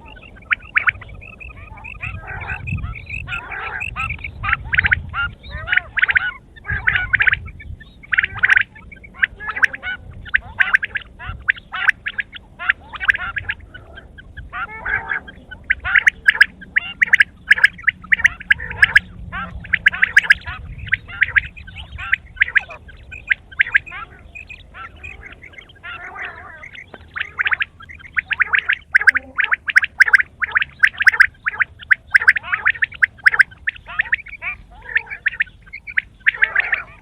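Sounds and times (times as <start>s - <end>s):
quail calling: 0.0s - 37.0s.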